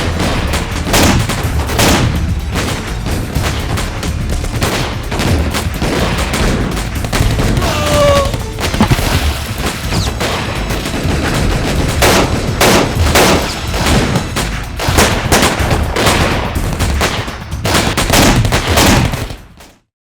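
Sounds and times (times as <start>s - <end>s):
gunfire shots and automatic bursts: 0.0s - 7.6s, 8.7s - 19.8s.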